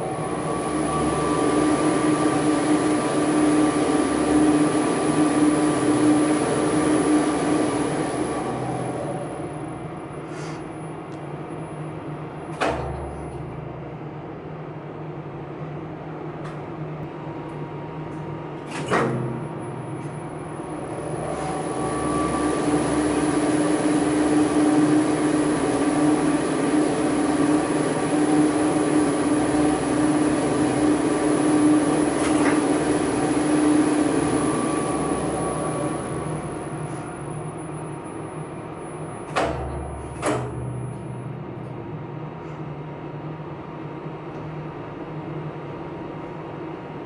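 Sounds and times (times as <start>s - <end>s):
elevator machinery humming: 0.0s - 46.2s.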